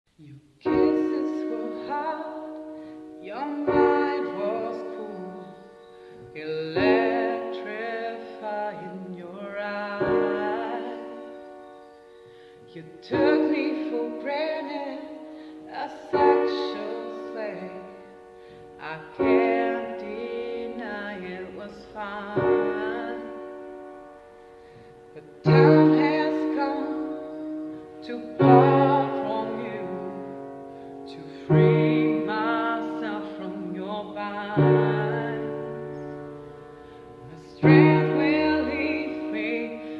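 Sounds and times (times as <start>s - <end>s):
piano chords ringing: 0.6s - 39.9s.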